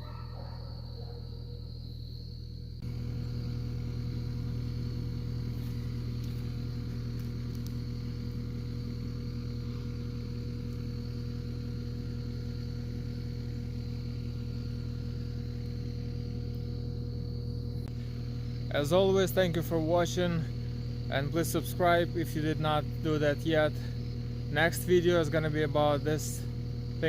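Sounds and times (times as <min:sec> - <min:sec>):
engine running steadily: 0:02.6 - 0:27.0.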